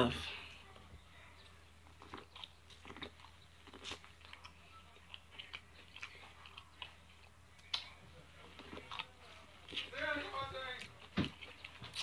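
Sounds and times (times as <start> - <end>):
biting and chewing corn: 1.3 - 12.0.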